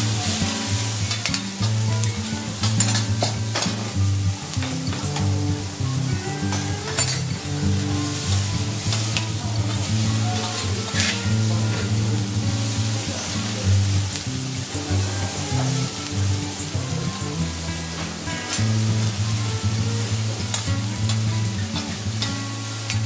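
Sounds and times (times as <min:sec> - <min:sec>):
background music: 0:00.0 - 0:23.0
vegetables sizzling on griddle: 0:00.0 - 0:23.0.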